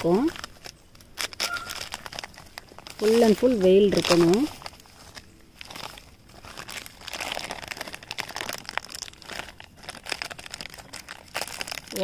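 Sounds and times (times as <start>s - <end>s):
plastic cover crinkling: 0.0s - 12.0s.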